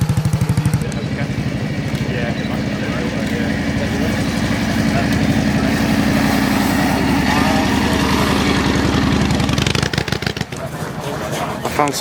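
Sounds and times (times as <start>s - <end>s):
engine idling: 0.0s - 12.0s
faint voices: 0.1s - 12.0s.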